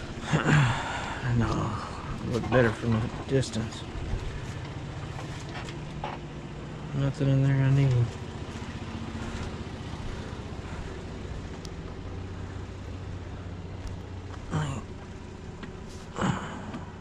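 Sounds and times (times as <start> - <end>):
car engine hum inside cabin: 0.0 - 17.0.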